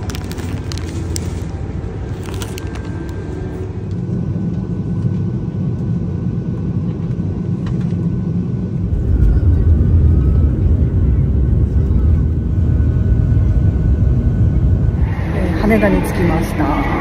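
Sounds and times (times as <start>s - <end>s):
vehicle rumble from on board: 0.0s - 17.0s.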